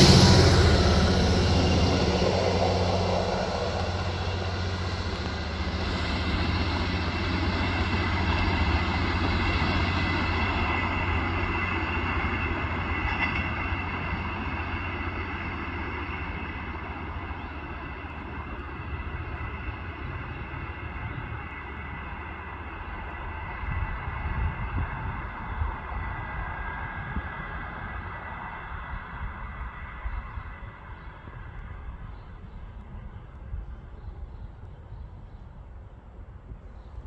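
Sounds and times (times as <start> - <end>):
diesel railcar engine drone: 0.0 - 37.0.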